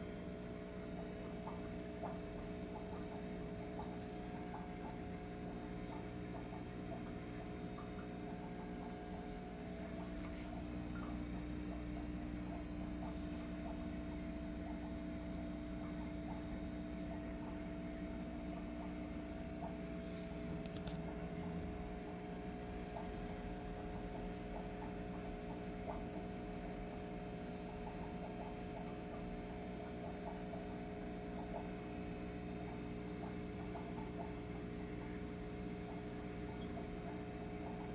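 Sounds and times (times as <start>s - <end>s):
aquarium pump humming: 0.0s - 37.9s
faint ticks: 0.8s - 37.9s.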